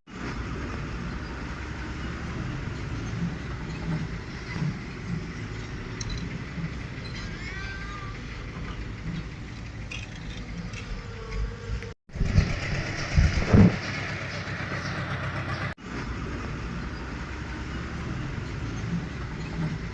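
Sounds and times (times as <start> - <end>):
heavy machinery engine running: 0.1 - 11.5, 12.1 - 19.9.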